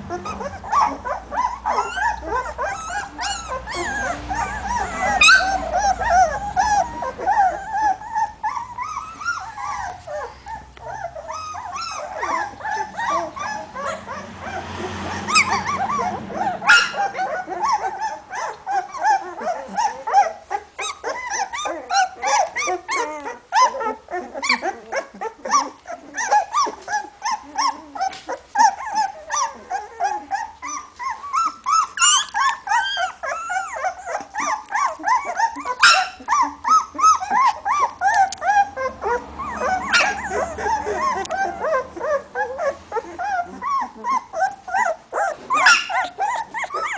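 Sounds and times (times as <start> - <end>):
puppies squeaking and whimpering: 0.0 - 46.9.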